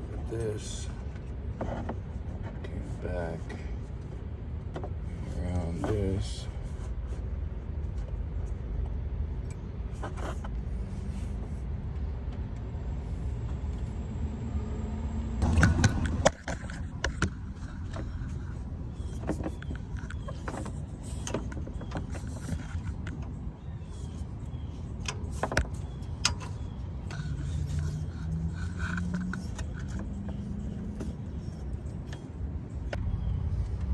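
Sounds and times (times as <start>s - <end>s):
low vehicle rumble: 0.0s - 33.9s.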